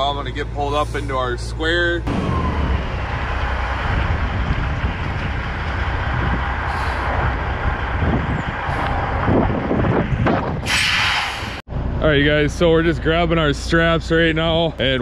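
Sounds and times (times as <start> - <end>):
truck engine running: 0.0 - 10.6, 11.7 - 15.0.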